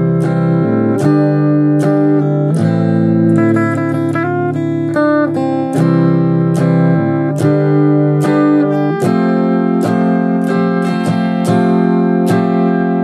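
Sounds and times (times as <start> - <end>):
electric guitar strumming chords: 0.0 - 13.0
picked guitar notes: 0.0 - 13.0.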